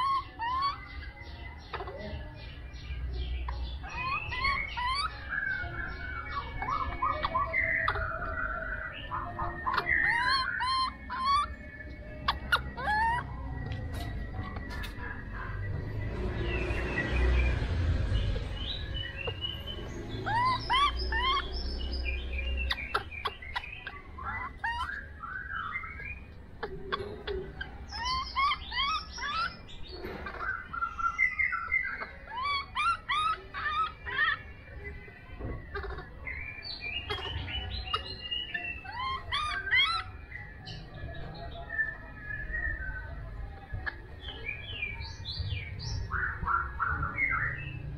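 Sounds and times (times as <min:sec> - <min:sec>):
squeaky monkey calls: 0:00.0 - 0:02.4, 0:03.4 - 0:15.7, 0:18.4 - 0:42.1
baby monkey coo calls: 0:00.0 - 0:02.6, 0:03.2 - 0:15.4, 0:18.3 - 0:45.0.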